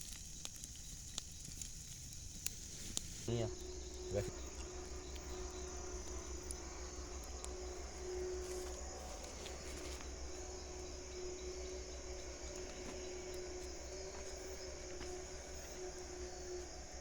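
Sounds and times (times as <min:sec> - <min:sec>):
night insects chirring: 0:00.0 - 0:17.0
faint low hum: 0:00.8 - 0:17.0.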